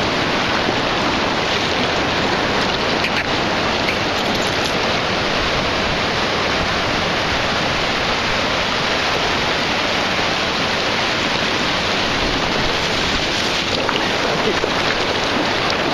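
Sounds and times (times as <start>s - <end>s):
waves washing into surf: 0.0s - 15.9s.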